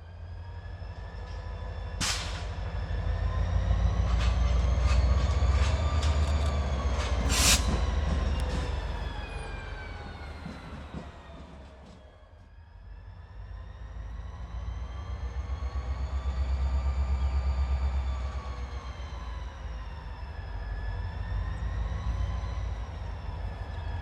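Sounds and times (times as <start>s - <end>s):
diesel locomotive engine rumble: 0.0s - 24.0s.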